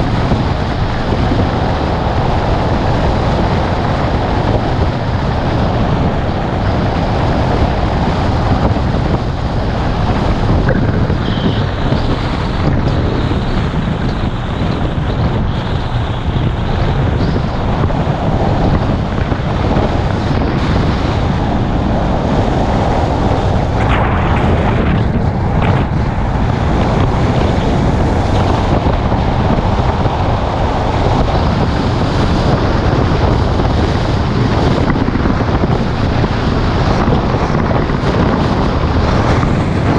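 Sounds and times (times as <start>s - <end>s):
car road and tyre noise: 0.0s - 39.9s
wind buffeting microphone: 0.0s - 39.9s.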